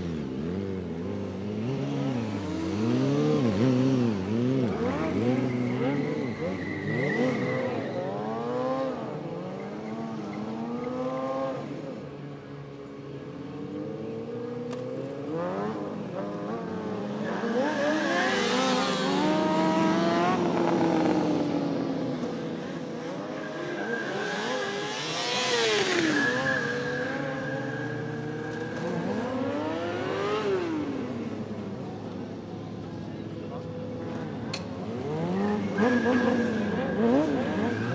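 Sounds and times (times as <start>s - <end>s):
motorcycle engines revving: 0.0s - 37.9s.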